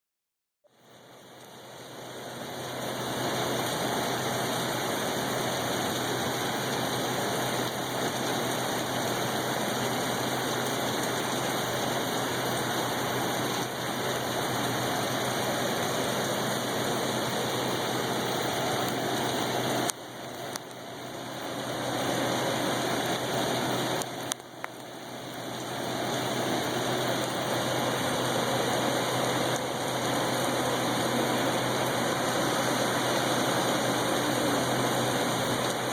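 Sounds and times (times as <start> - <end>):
steady rain falling: 0.7 - 35.9.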